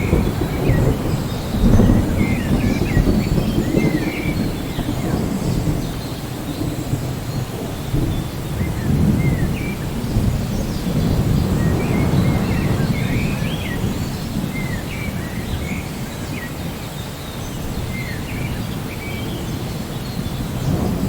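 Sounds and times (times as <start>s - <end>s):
thunder rumbling: 0.0s - 16.8s, 17.7s - 21.0s
birds chirping: 0.0s - 21.0s
rain: 0.0s - 21.0s.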